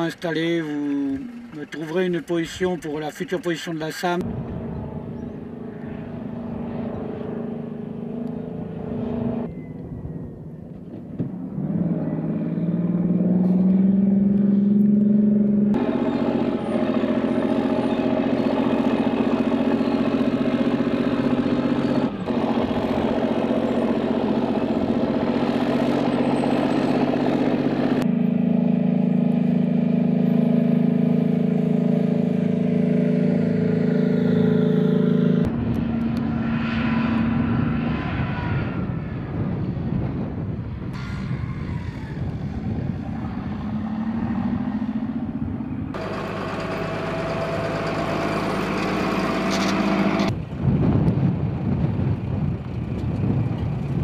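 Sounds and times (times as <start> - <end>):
engine revving: 0.0 - 9.9, 11.2 - 40.2, 40.8 - 51.0
armoured vehicle engines running: 0.0 - 54.0.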